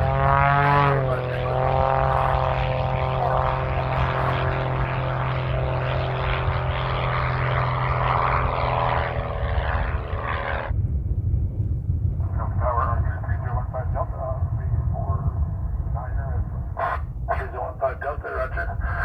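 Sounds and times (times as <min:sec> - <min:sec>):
low rumble: 0:00.0 - 0:19.0
propeller aircraft engines droning: 0:00.0 - 0:19.0.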